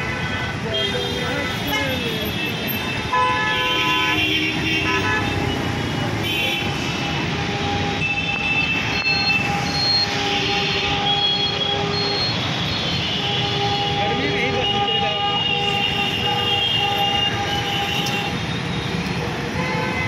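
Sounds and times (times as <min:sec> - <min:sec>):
road traffic: 0:00.0 - 0:20.0
vehicle horns honking: 0:00.0 - 0:20.0.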